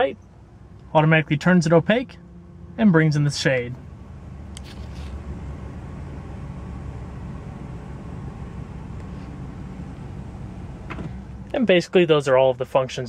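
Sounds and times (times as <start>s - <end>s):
low cabin hum: 0.0s - 13.0s.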